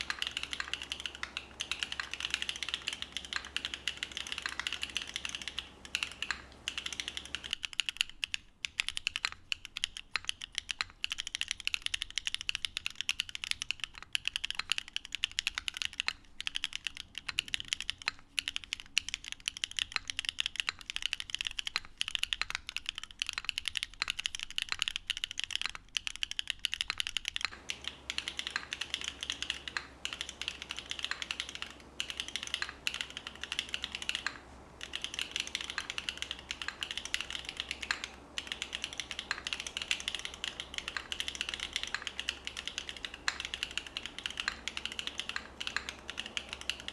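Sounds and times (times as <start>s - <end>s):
background hiss: 0.0s - 46.9s
fast mechanical keyboard typing: 0.0s - 46.9s.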